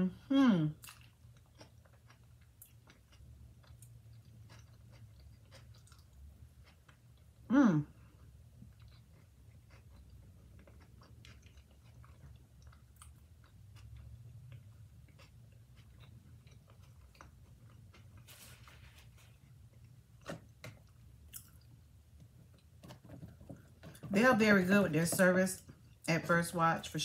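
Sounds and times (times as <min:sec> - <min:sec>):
low steady hum: 0:00.0 - 0:27.0
close-up chewing: 0:00.8 - 0:24.1.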